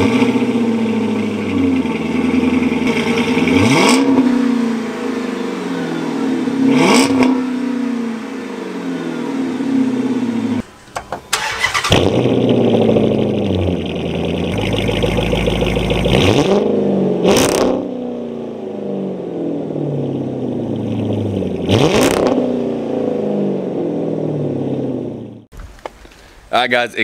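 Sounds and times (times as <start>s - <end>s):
car engine idling and revving: 0.0s - 25.5s.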